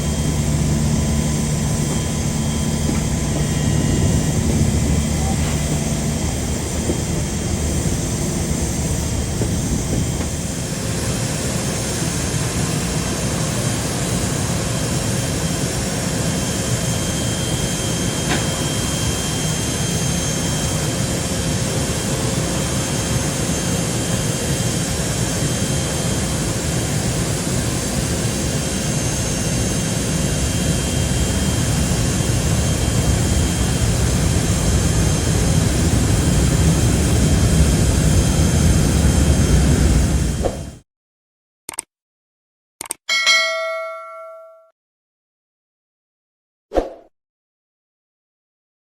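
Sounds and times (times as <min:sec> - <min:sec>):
jet engines roaring with whine: 0:00.0 - 0:40.8.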